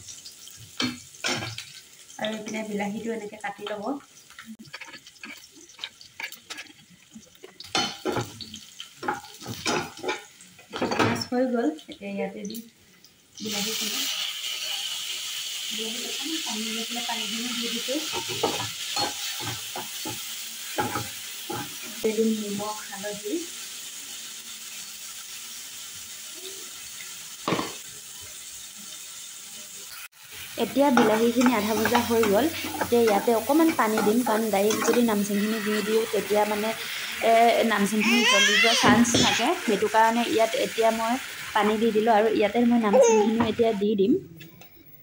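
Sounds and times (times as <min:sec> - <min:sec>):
vegetables sizzling in oil: 0:00.0 - 0:44.2.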